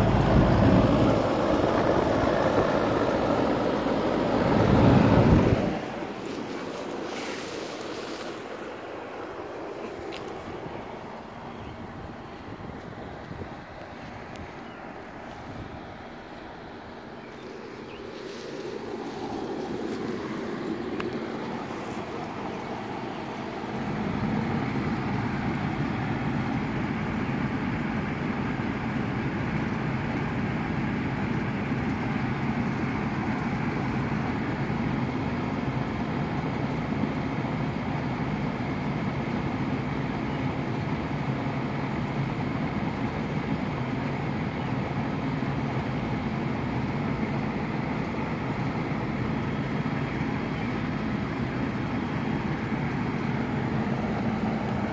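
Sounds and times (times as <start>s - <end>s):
low mechanical drone: 0.0s - 54.9s.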